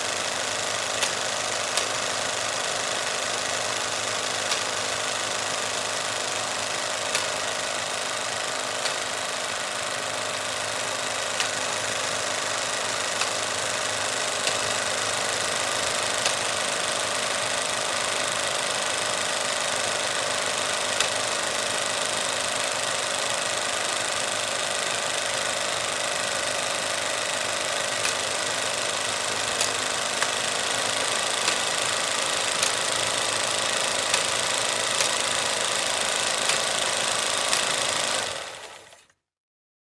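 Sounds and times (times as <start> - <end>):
projector hum: 0.0 - 38.9
film projector whirring rattle: 0.0 - 39.2
projector clicks: 0.8 - 39.0.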